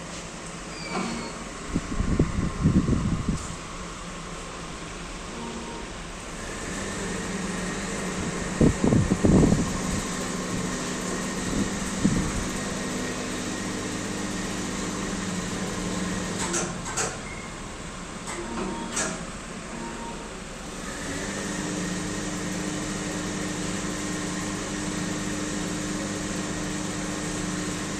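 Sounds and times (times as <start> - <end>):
machinery humming: 0.4 - 27.9.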